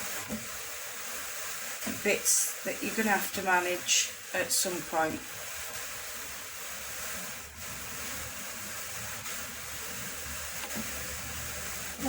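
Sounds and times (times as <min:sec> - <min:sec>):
drum carder brushing hiss: 0:00.0 - 0:12.0.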